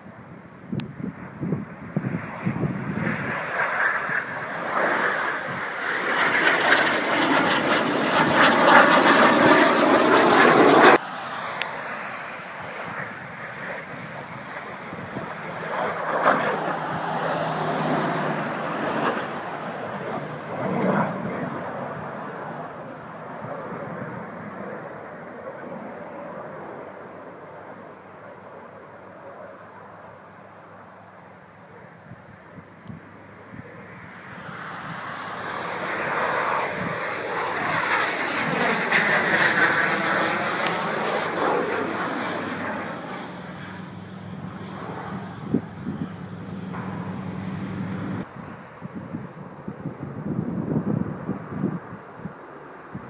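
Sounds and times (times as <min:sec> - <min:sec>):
jet aircraft roaring past: 0:00.0 - 0:53.0
high jet whine: 0:00.8 - 0:31.1, 0:32.8 - 0:52.0.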